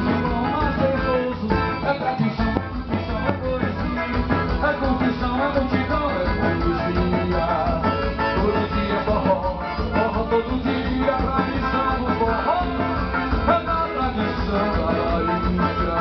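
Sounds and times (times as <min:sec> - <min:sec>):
live band music over speakers: 0:00.0 - 0:16.0.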